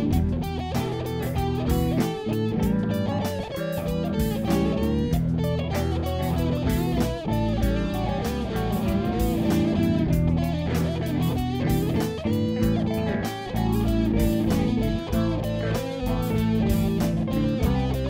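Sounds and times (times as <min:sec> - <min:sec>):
electric guitar instrumental music: 0:00.0 - 0:18.0.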